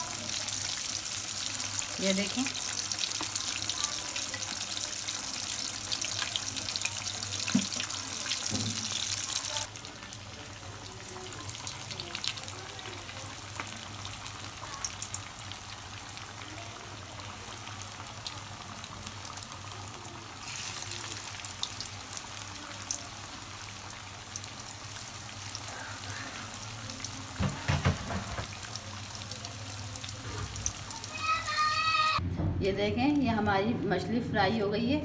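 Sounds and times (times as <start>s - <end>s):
fish sizzling in hot oil: 0.0s - 32.2s.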